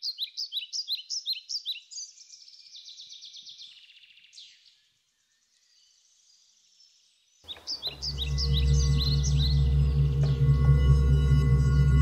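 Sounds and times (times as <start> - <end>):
songbird chirping and trilling: 0.0 - 12.0.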